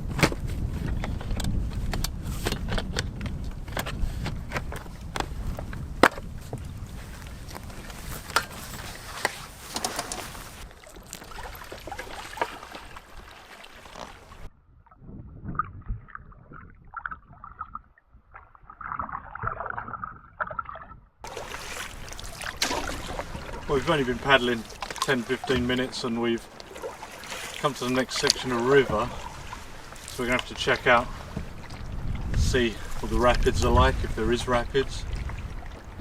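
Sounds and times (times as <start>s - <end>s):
water sloshing and splashing: 0.0s - 36.0s.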